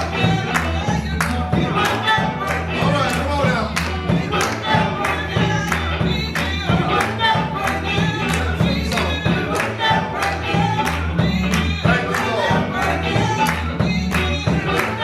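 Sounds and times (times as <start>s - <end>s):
bass line: 0.0s - 15.0s
choir singing: 0.0s - 15.0s
drum or hand clap beat: 0.0s - 15.0s.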